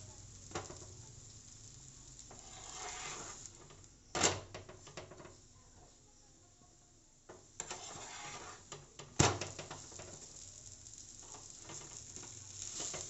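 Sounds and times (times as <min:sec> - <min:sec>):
bread sizzling in a pan: 0:00.0 - 0:13.0.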